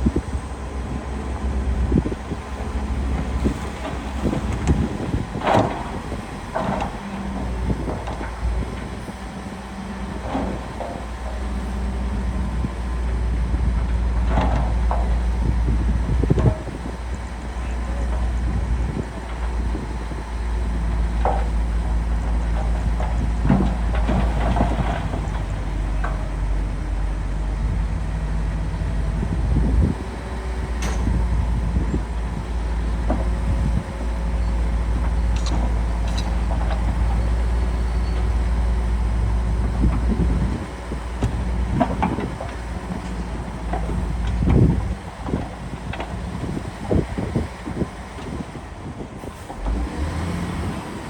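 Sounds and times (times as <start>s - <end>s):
bulldozer diesel engine running: 0.0s - 51.0s
wind rumble on microphone: 0.0s - 51.0s.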